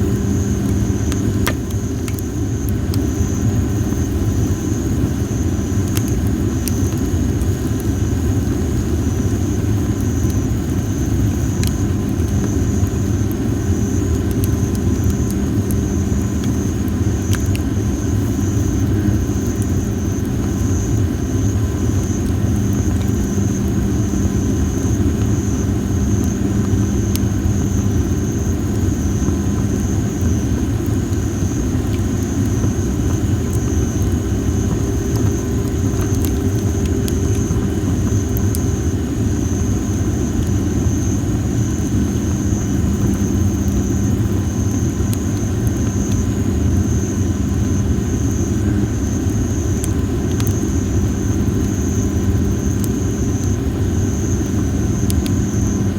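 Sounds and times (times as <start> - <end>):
firewood crackling: 0.0 - 55.9.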